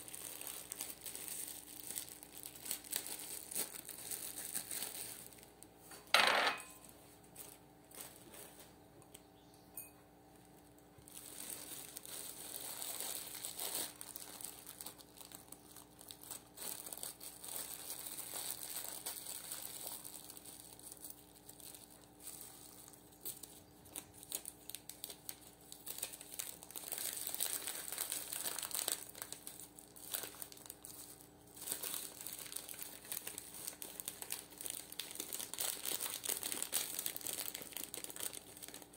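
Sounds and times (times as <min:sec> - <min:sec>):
plastic bags crinkling: 0:00.0 - 0:08.8, 0:10.4 - 0:38.9.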